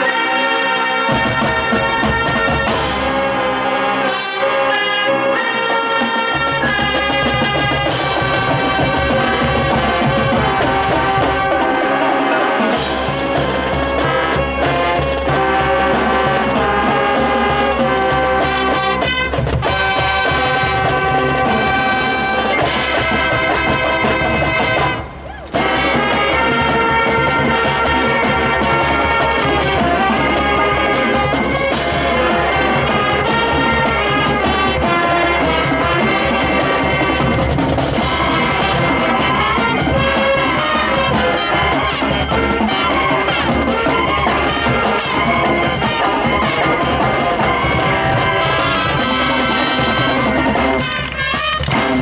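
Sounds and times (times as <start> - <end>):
brass marching band: 0.0 - 52.0
drums: 0.0 - 52.0.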